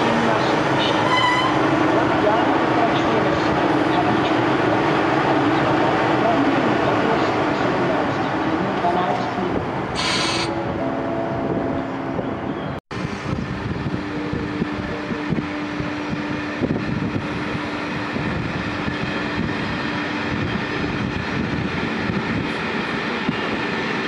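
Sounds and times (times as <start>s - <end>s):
locomotive machinery humming: 0.0s - 24.0s.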